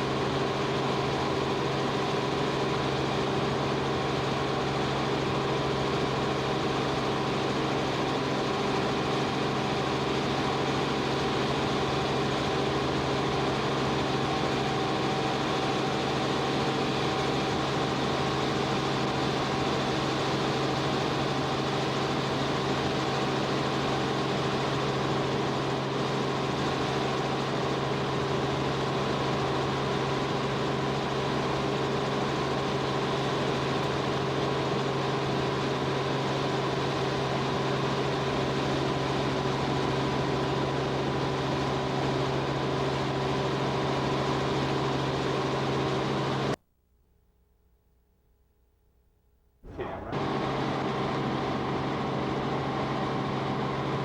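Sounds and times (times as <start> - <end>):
aircraft engine drone: 0.0 - 46.5, 49.7 - 54.0.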